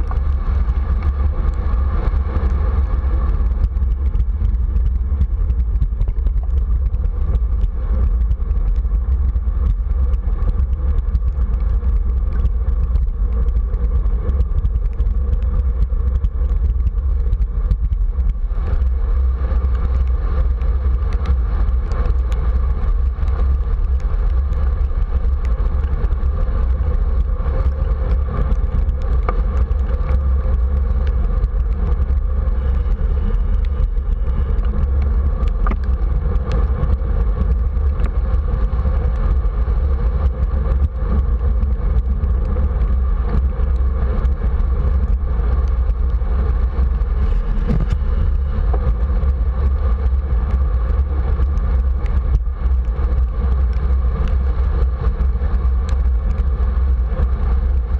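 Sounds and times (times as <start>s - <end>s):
small ticks: 0.0s - 57.9s
tyre noise on wet pavement: 0.0s - 57.9s
wind buffeting microphone: 0.0s - 57.9s.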